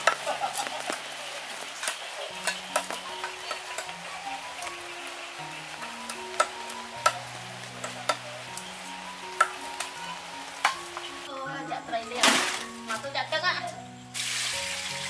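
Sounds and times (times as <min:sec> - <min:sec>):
soft background music: 0:01.8 - 0:15.0.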